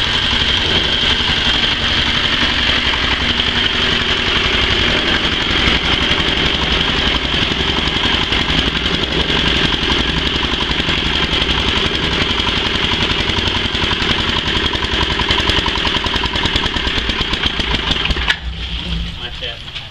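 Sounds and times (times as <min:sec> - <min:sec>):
fast even rattle: 0:00.0 - 0:19.9
washing machine engine drone: 0:00.0 - 0:19.9.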